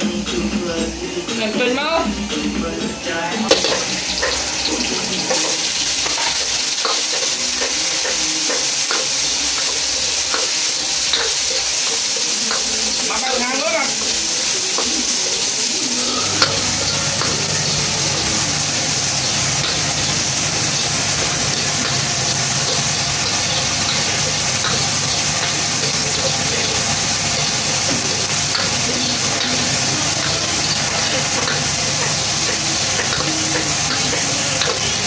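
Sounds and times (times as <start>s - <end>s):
food sizzling in hot oil: 3.4s - 35.0s.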